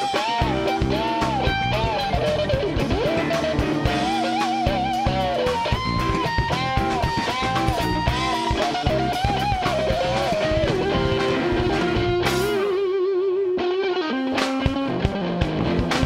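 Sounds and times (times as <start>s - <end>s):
electric guitar solo: 0.0s - 16.0s
live blues band: 0.0s - 16.0s.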